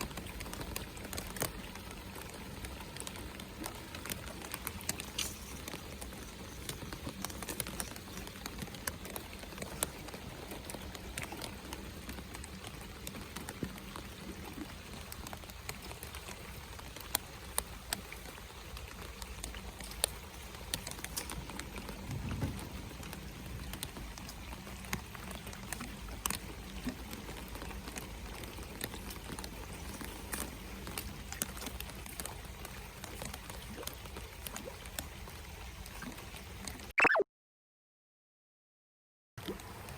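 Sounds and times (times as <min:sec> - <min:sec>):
rain falling: 0:00.0 - 0:36.9
raindrops ticking close by: 0:00.0 - 0:36.9, 0:39.4 - 0:39.9.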